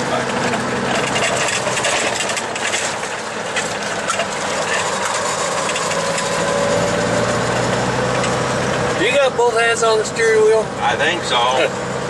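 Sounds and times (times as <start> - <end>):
road and cab noise: 0.0 - 12.0
truck diesel engine running: 0.0 - 12.0.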